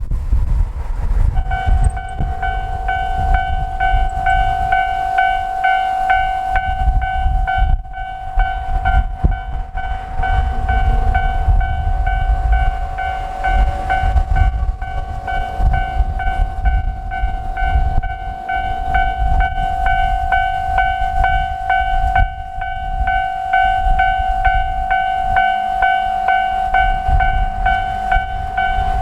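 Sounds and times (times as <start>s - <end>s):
low rumble: 0.0s - 25.5s
level-crossing warning bell: 0.6s - 29.0s.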